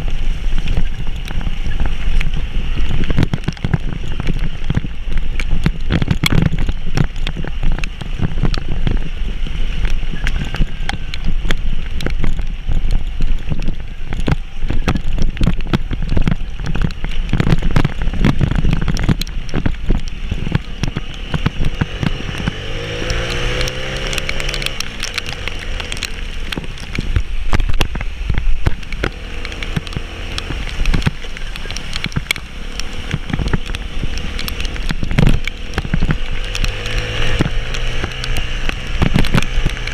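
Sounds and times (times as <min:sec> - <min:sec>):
heavy rain pattering on vehicle: 0:00.0 - 0:39.9
vehicle engine low rumble: 0:00.0 - 0:39.9.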